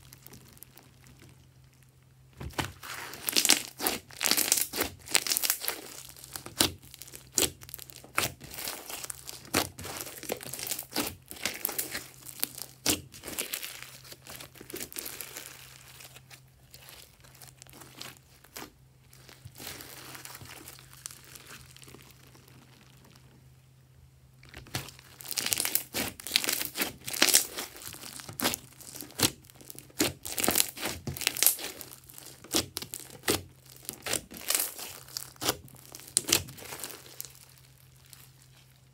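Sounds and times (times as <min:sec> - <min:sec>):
foam bead slime crackling: 0:00.0 - 0:38.9.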